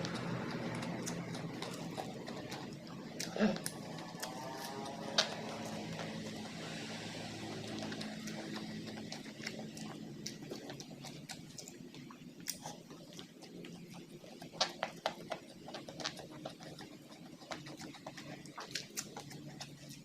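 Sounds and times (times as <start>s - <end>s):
faint low hum: 0.0s - 20.0s
wet chewing and mouth smacks: 0.0s - 20.0s.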